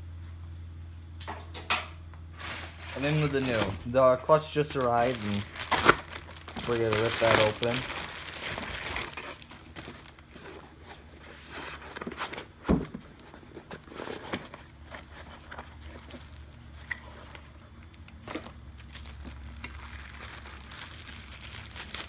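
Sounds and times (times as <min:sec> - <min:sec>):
faint low hum: 0:00.0 - 0:22.0
packaging rustling: 0:02.4 - 0:22.0.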